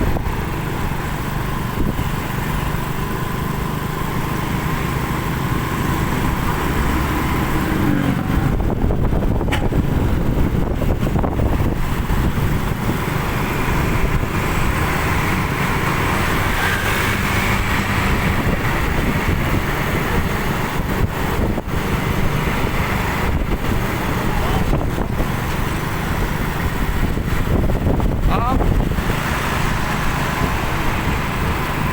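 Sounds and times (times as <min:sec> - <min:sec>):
traffic engines rumbling: 0:00.0 - 0:31.9.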